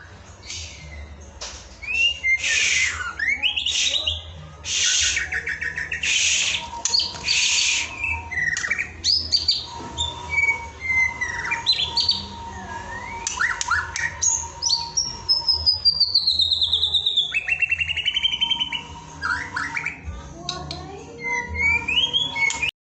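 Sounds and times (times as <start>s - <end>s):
songbird song: 0.0s - 22.7s.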